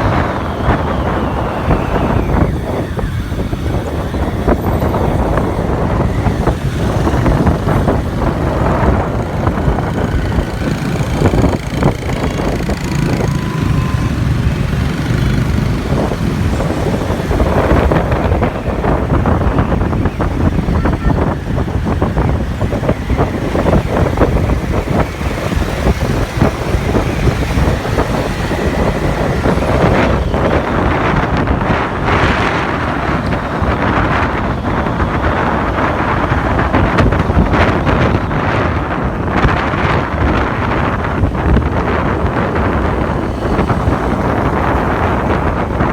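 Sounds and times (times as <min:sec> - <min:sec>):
motorbike engine: 0:00.0 - 0:45.9
street traffic: 0:00.0 - 0:45.9
wind buffeting microphone: 0:00.0 - 0:45.9.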